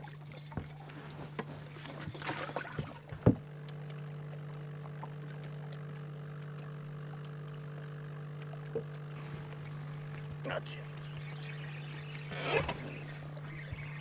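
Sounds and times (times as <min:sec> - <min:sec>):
steady low hum: 0:00.0 - 0:14.0
water splashing and trickling: 0:00.0 - 0:14.0.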